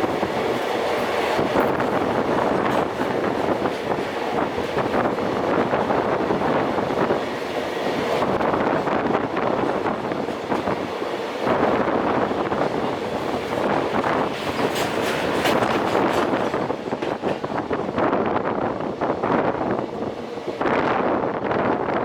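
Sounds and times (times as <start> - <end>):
wheels clicking over rail joints: 0.0 - 18.0
train wheels clattering on rails: 0.0 - 20.6.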